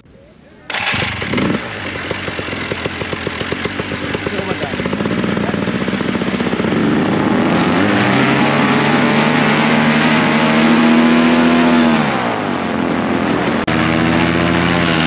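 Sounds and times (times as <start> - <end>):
paramotor engine throttling: 0.0 - 15.0.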